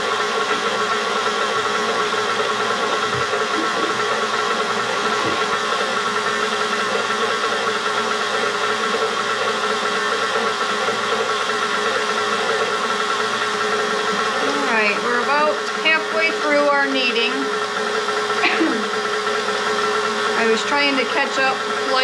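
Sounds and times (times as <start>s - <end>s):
stand mixer motor running: 0.0s - 22.0s.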